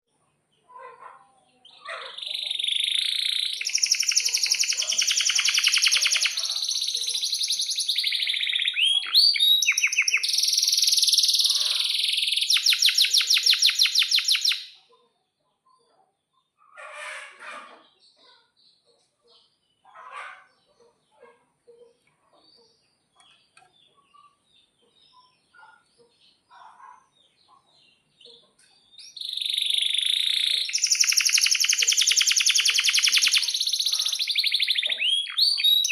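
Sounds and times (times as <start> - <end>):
canary singing trills: 0.5 - 16.8, 17.4 - 35.9.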